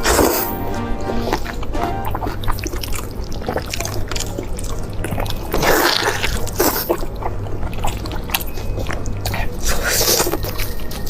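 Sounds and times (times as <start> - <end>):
wet chewing and mouth noises: 0.0 - 11.0
wet slurp: 0.0 - 11.0.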